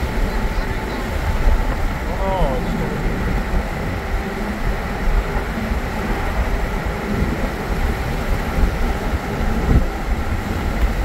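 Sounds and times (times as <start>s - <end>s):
road rumble: 0.0s - 11.0s.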